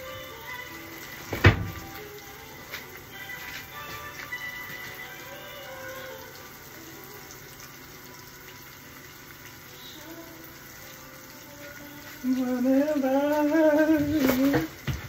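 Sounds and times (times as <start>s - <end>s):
omelette frying: 0.0s - 15.0s.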